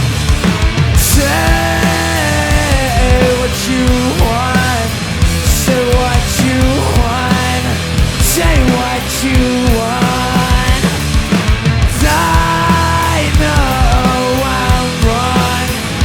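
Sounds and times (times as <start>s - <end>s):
drums: 0.0s - 16.0s
guitars and bass: 0.0s - 16.0s
melodic lead guitar line: 0.0s - 16.0s.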